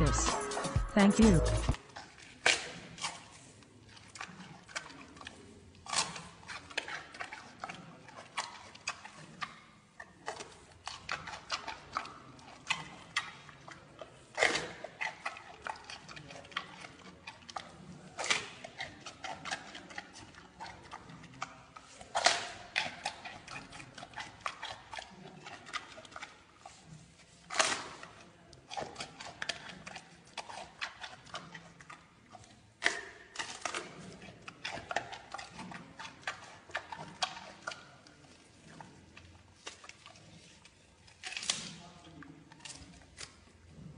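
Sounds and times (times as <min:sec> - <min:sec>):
panda chewing bamboo: 0:00.0 - 0:41.8, 0:42.5 - 0:43.9.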